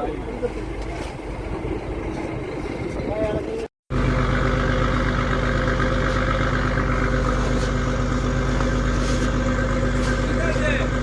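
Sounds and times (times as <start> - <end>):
boat engine droning: 0.1 - 11.0.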